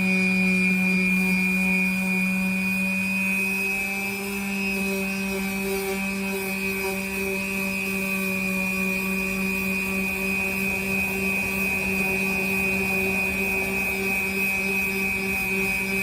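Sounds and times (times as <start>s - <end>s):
power sander whining: 0.0s - 16.0s.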